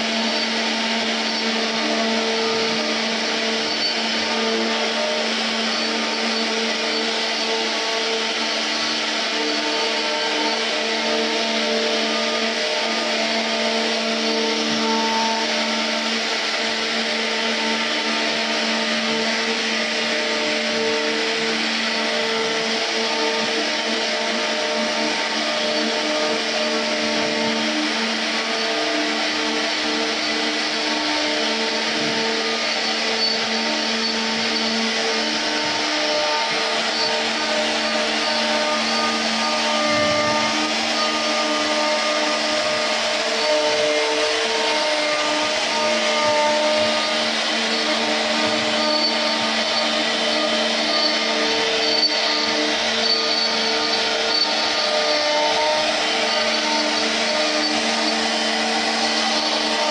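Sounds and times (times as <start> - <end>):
bit cutting wood hiss: 0.0 - 59.9
router spindle whining: 0.0 - 59.9
steady machine tones: 0.0 - 59.9.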